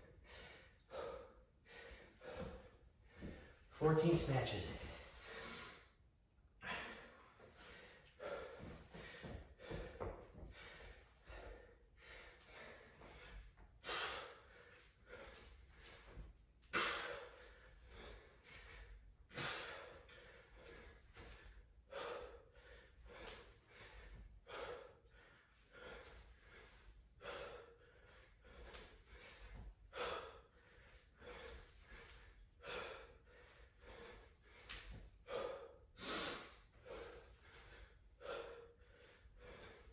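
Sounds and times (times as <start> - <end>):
man breathing heavily: 0.0 - 3.8, 4.7 - 39.9.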